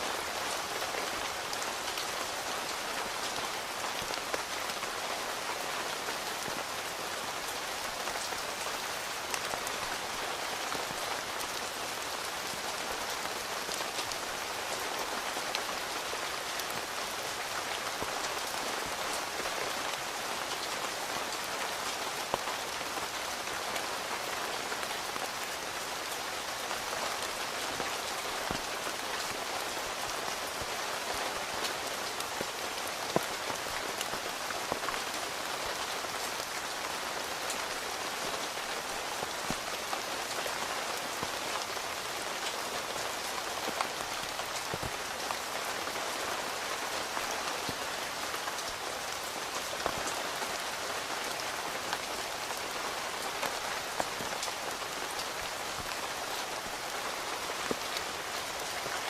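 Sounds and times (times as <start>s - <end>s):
rain falling on a tent: 0.0s - 59.0s.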